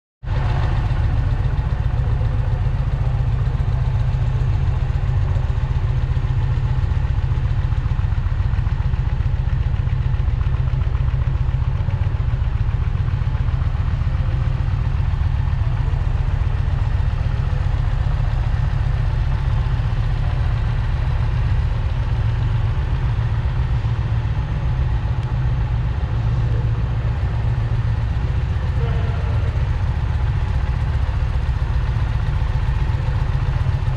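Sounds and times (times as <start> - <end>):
motorcycle engine idling: 0.3 - 33.9.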